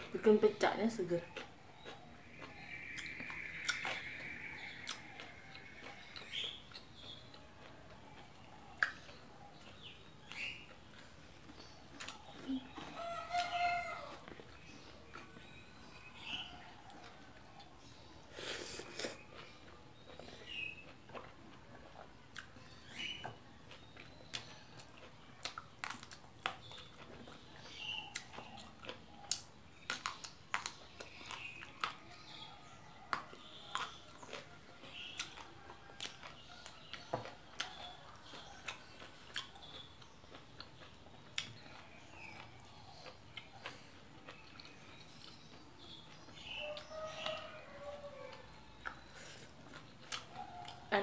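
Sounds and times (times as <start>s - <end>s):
person chewing crunchy food: 1.2s - 51.0s.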